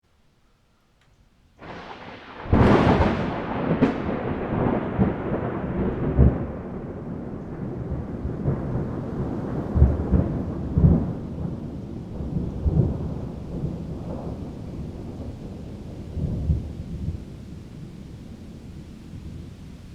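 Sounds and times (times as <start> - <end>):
thunderclap cracking: 1.6 - 17.9
rain falling: 1.6 - 19.9
thunder rumbling: 1.6 - 19.9.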